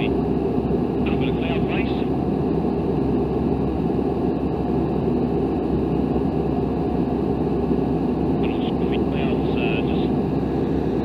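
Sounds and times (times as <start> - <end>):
airplane engine and propeller drone: 0.0 - 11.0.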